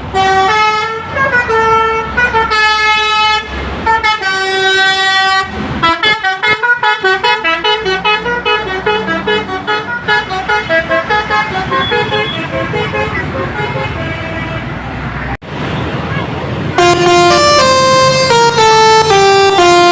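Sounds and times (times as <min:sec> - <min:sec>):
bus horn playing a tune: 0:00.0 - 0:14.8, 0:16.8 - 0:19.9.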